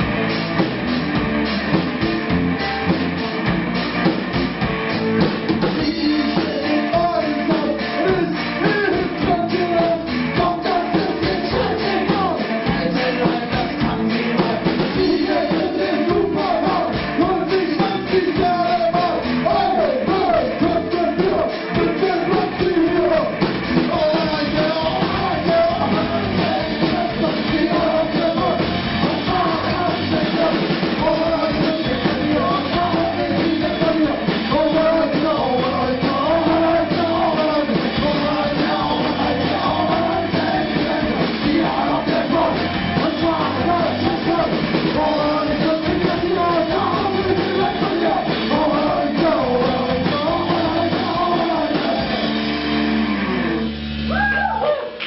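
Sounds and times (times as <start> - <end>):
live rock band playing: 0.0 - 55.0
man singing and shouting: 5.6 - 52.3.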